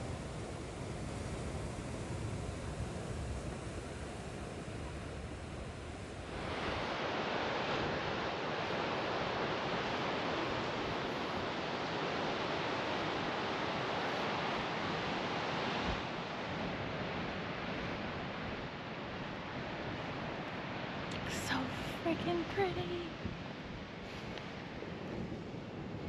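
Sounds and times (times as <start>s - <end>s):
ocean surf washing ashore: 0.0s - 26.0s.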